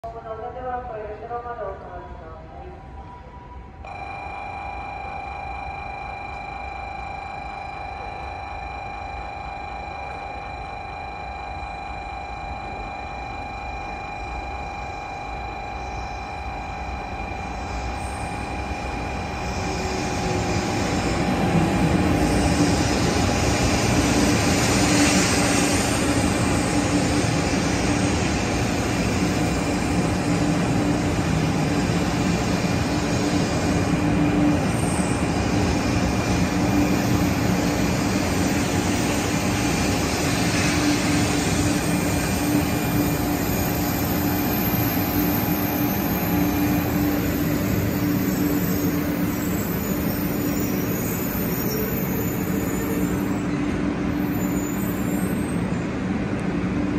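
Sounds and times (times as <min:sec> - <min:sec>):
steady whine: 0:03.8 - 0:55.7
train wheels rumbling: 0:11.1 - 0:56.9.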